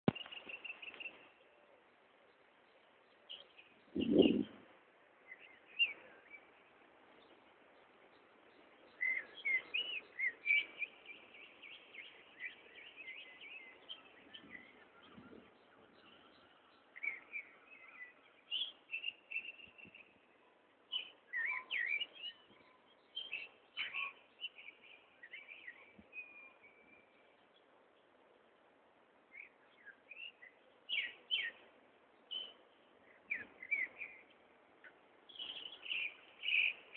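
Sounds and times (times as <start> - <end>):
birds chirping and singing: 2.3 - 28.1, 29.3 - 36.9.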